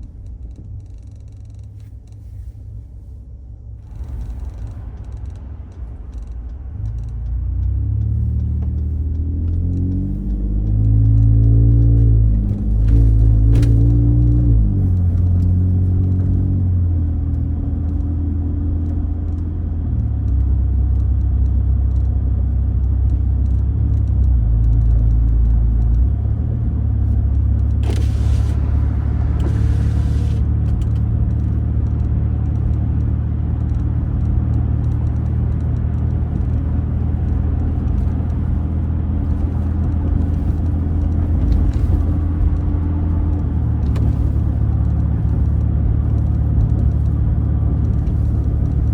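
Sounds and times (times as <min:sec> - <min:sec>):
deep exhaust rumble: 0:00.0 - 0:48.9.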